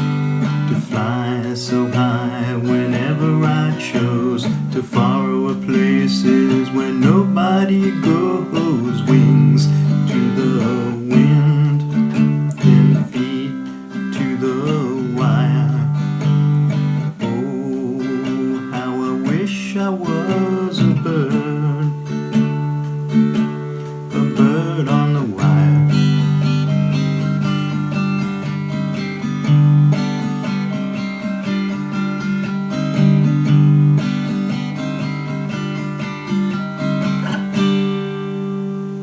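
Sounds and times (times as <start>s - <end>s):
acoustic guitar folk song: 0.0s - 39.0s.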